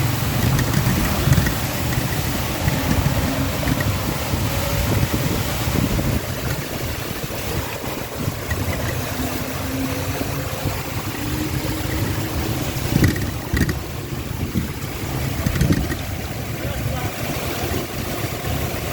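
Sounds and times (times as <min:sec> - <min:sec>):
vehicle engine running: 0:00.0 - 0:18.9
water sloshing and splashing: 0:00.0 - 0:18.9.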